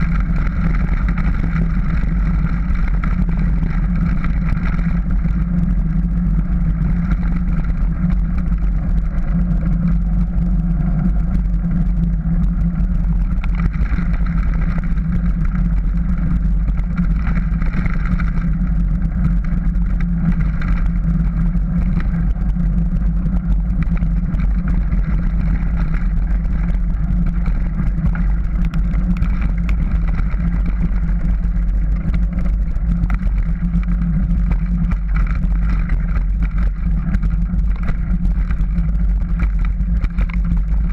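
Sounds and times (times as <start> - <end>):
bicycle tyres crunching over gravel: 0.0 - 40.9
wind buffeting microphone: 0.0 - 40.9.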